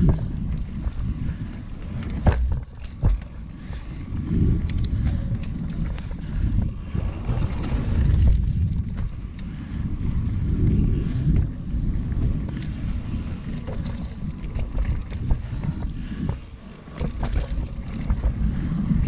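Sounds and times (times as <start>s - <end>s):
bike clicks and rattles: 0.0s - 19.0s
bike tyres rumbling: 0.0s - 19.0s
wind buffeting microphone: 0.0s - 19.0s.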